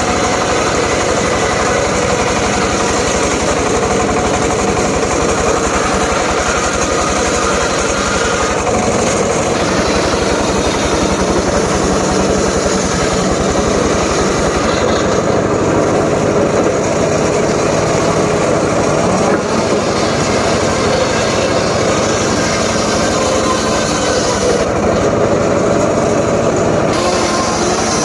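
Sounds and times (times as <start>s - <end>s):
circular saw blade spinning: 0.0s - 28.0s
engine beating: 0.0s - 28.0s.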